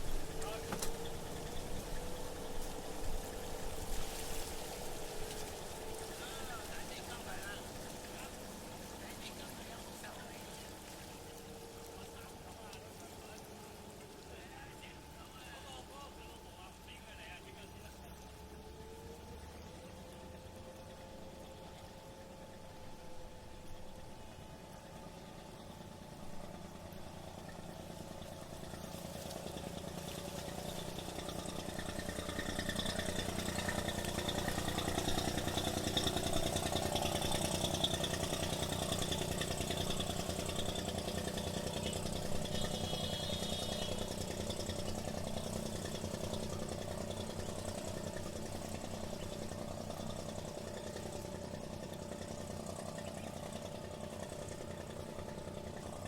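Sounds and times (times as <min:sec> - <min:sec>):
engine with pulsing hum passing by: 0:00.0 - 0:56.0.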